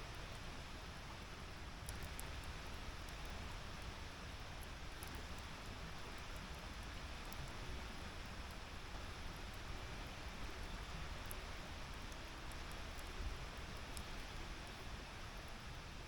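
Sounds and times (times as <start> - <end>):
fire crackles: 0.1 - 16.0.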